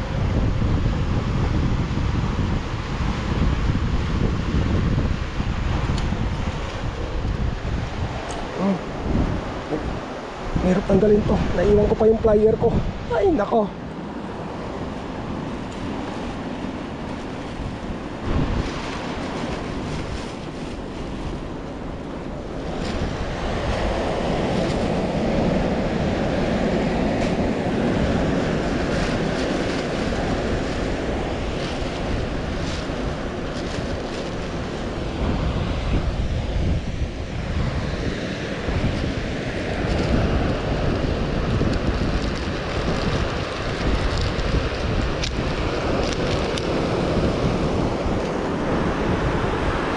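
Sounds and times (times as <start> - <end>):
sea surf rushing: 0.0 - 49.9
wind buffeting microphone: 0.0 - 49.9.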